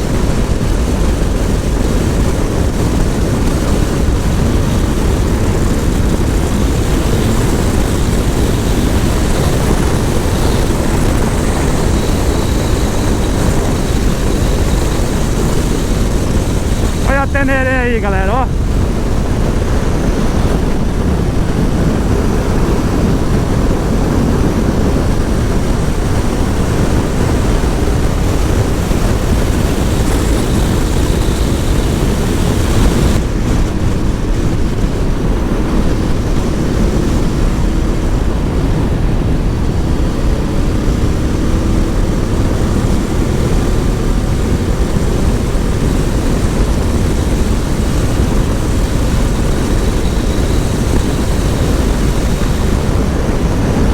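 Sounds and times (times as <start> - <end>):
motorcycle engine drone: 0.0 - 53.9
wind rush over microphone: 0.0 - 53.9.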